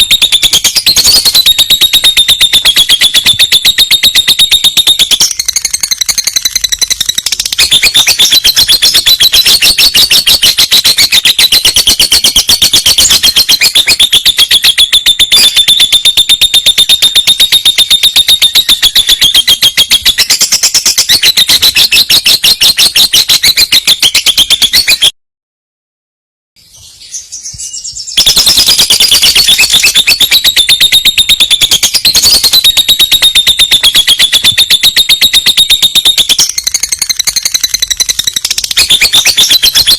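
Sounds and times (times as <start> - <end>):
lovebird chattering song: 0.0 - 25.1, 26.8 - 39.9.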